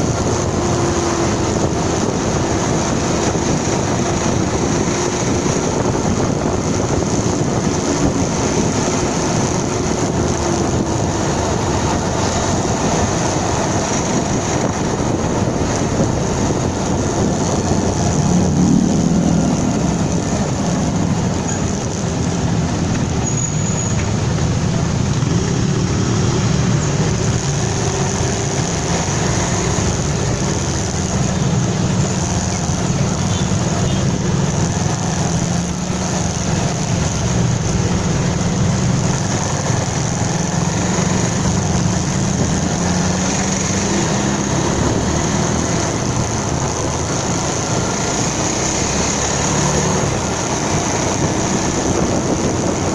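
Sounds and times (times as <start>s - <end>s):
motorcycle engine running: 0.0s - 52.9s
wind and road noise: 0.0s - 52.9s.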